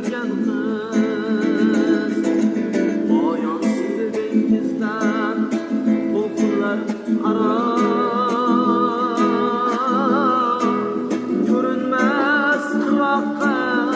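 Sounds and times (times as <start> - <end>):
plucked-string accompaniment: 0.0 - 13.9.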